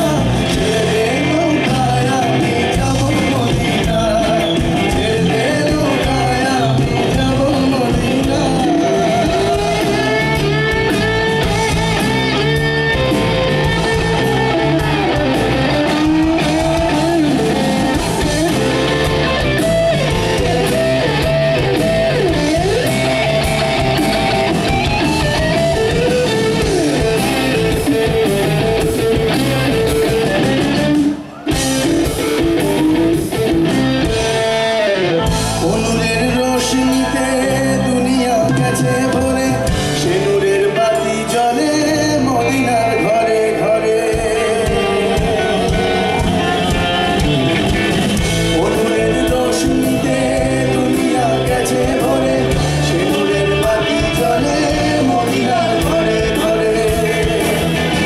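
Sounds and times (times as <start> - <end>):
folk-rock band playing live: 0.0 - 58.0.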